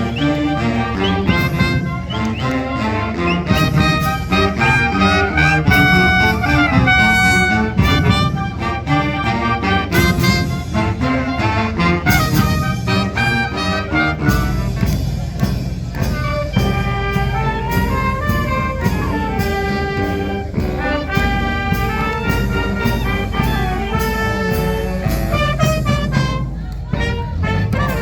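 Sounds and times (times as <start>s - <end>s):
brass band playing a march: 0.0s - 28.0s
steady drum beat: 0.0s - 28.0s.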